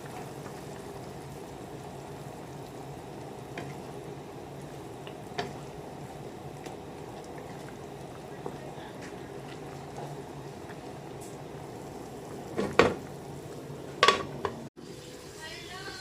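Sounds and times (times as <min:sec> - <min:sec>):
pot simmering and bubbling: 0:00.0 - 0:16.0.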